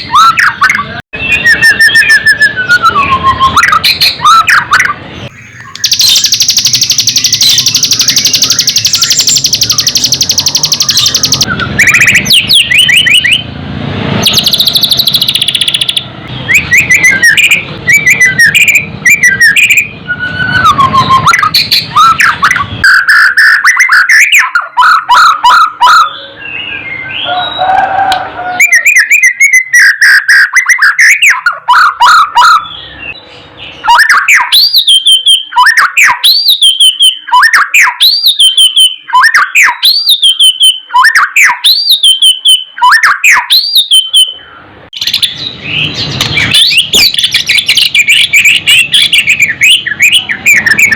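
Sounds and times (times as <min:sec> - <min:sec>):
bird singing whistled phrases: 0:00.0 - 0:13.5, 0:14.2 - 0:50.9.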